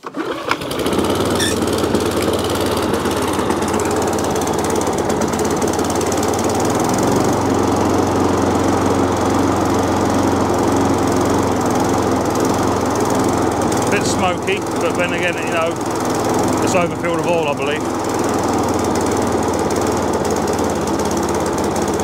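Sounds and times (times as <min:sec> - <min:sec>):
lawn mower engine starting: 0:00.0 - 0:22.0.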